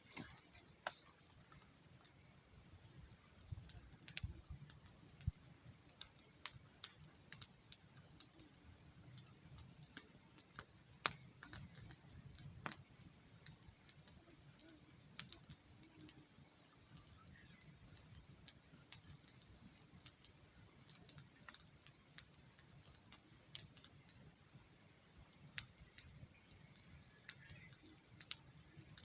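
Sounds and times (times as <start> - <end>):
campfire crackling: 0.0 - 29.0
sharp pops of fire: 0.0 - 29.0
steady high hiss: 0.0 - 29.0.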